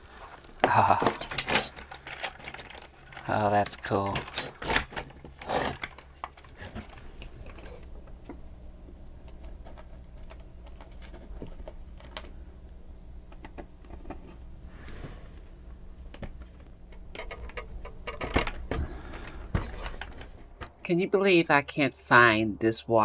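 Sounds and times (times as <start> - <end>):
steady low hum: 0.0 - 23.0
small parts clicking and tapping: 0.3 - 14.6, 15.2 - 20.6.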